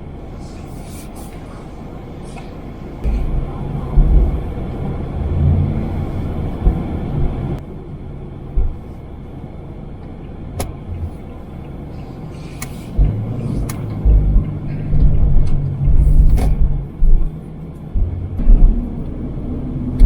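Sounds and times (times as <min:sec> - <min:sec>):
van road and engine rumble: 0:00.0 - 0:20.0.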